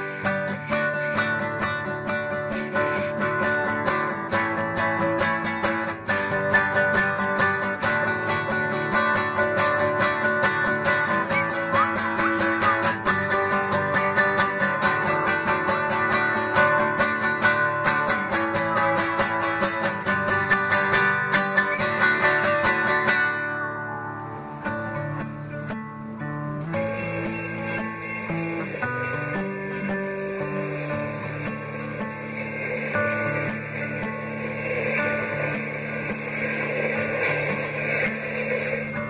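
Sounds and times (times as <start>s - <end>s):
strummed guitar: 0.0s - 39.0s.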